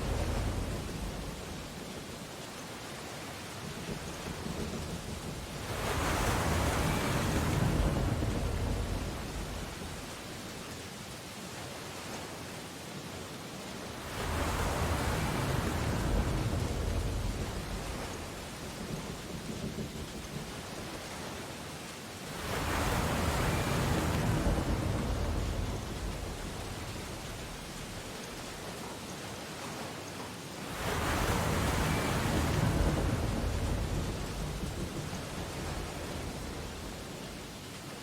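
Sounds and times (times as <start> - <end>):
ocean waves crashing: 0.0 - 38.0
steady hiss of surf: 0.0 - 38.0.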